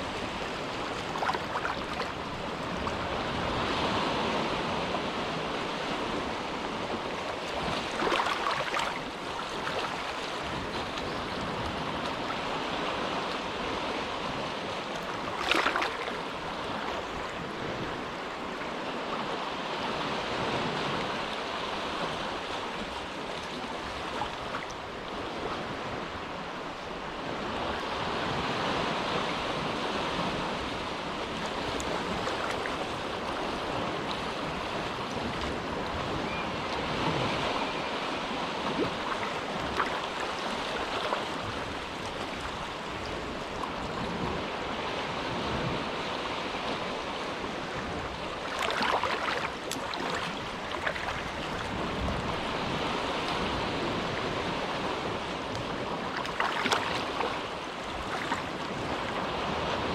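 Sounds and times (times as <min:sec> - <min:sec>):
small waves lapping at shore: 0:00.0 - 0:59.9.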